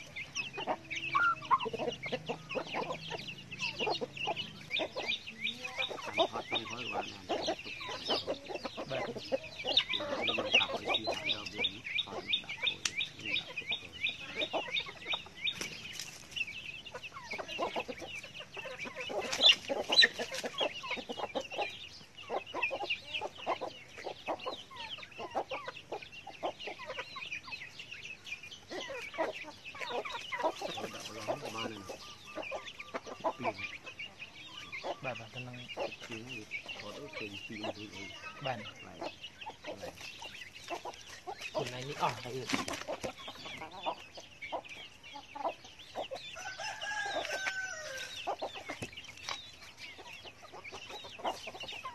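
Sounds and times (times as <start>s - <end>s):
chickens clucking: 0.0s - 51.9s
chickens scratching ground: 0.0s - 51.9s
chicks peeping: 0.0s - 51.9s.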